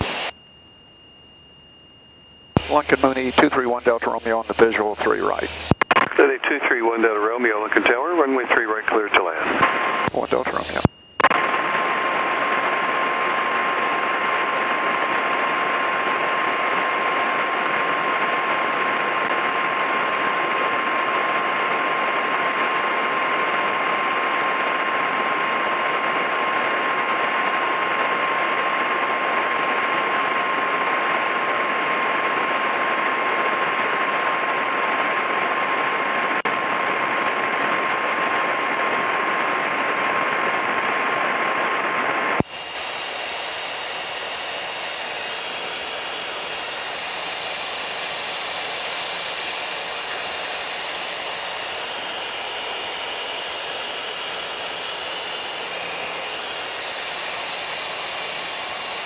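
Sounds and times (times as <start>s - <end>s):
aircraft cabin drone: 0.0s - 59.0s
thin steady whine: 0.0s - 59.0s.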